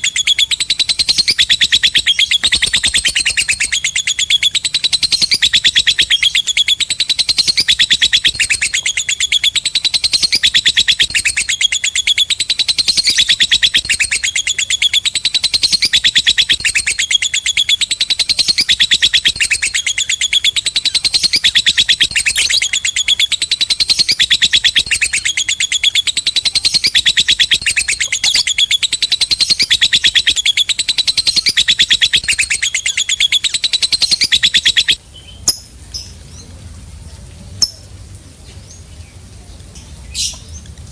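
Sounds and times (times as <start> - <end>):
lovebird chattering chirps: 0.0 - 36.2.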